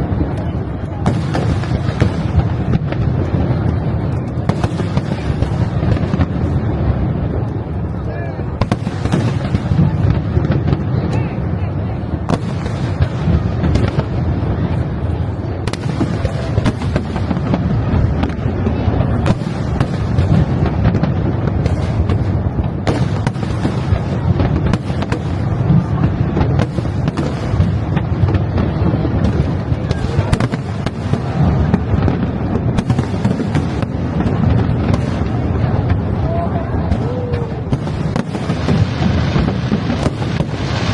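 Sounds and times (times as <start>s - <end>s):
fireworks bangs and cracks: 0.0s - 40.9s.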